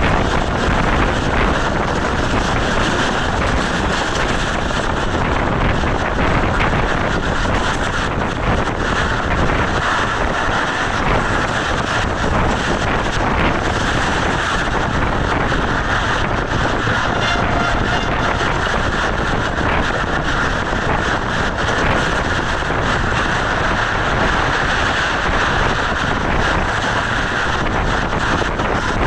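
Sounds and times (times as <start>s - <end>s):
train coaches rumbling: 0.0s - 29.0s
wind buffeting microphone: 0.0s - 29.0s.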